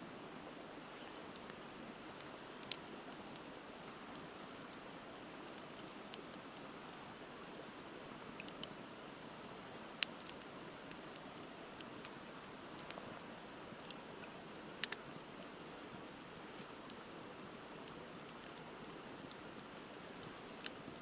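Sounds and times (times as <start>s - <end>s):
campfire crackling and popping: 0.8s - 21.0s.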